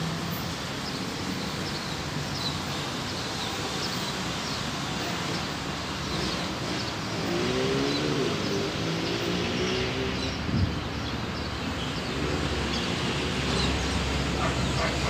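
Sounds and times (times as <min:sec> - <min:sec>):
street traffic: 0:00.0 - 0:15.0
birds chirping: 0:00.2 - 0:15.0.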